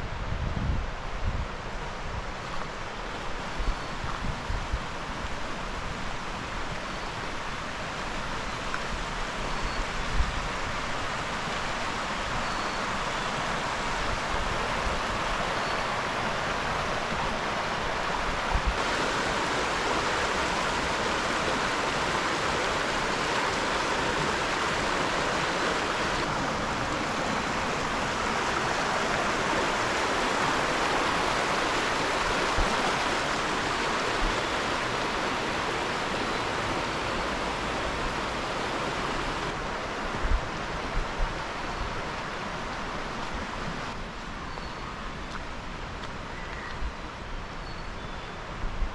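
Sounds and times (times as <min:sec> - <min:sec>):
creek water rushing: 0:01.0 - 0:47.6.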